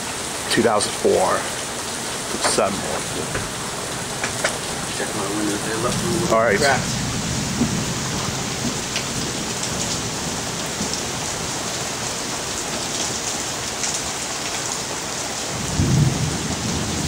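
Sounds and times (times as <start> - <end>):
steady rain hiss: 0.0 - 17.0
raindrop ticks: 0.5 - 14.8.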